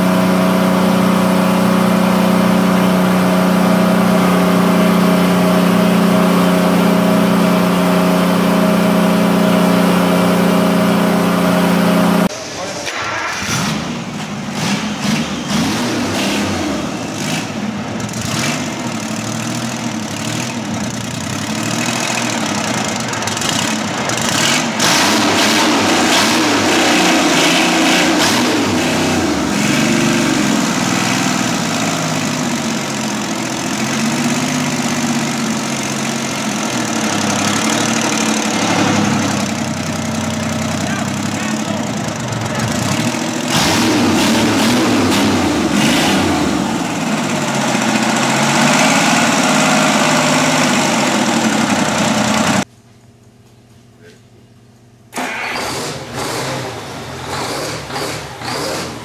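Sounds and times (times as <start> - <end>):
diesel engine revving: 0.0 - 52.7, 55.1 - 59.0.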